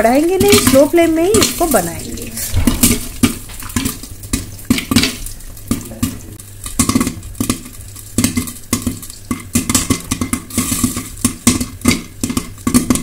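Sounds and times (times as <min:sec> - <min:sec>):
corn kernels popping: 0:00.0 - 0:13.0.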